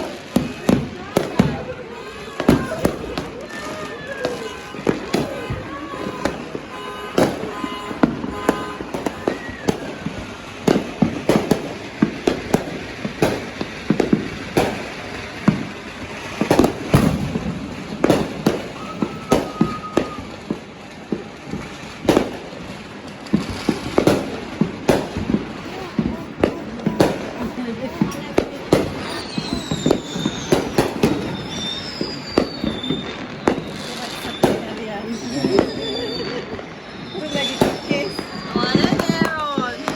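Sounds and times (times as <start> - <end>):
fireworks bangs: 0.0 - 39.9
fireworks whistling: 0.0 - 39.9.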